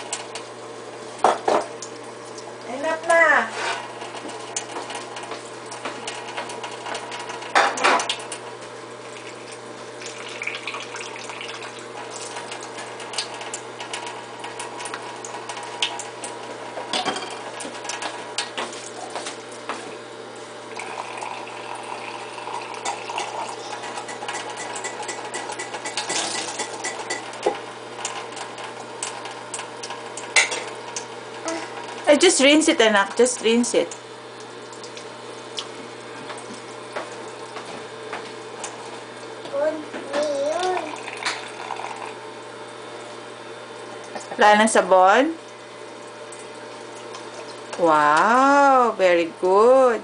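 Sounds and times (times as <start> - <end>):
tap water running into sink: 1.2 - 19.8, 20.7 - 43.1.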